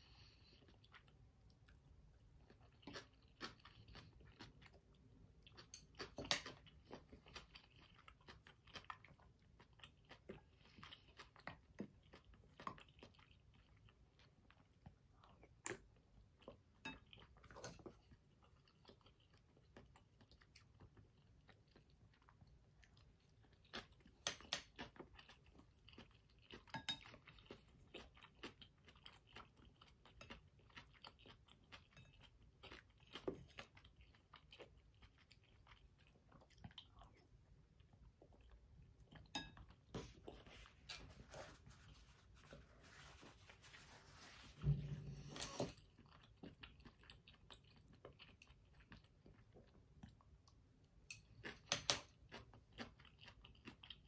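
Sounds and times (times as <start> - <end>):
chewing with wet mouth sounds: 0.0 - 54.0.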